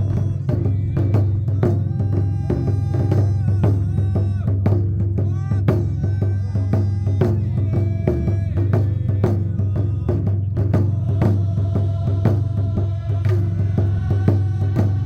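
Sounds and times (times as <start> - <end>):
drums in quick rhythm: 0.0 - 15.0.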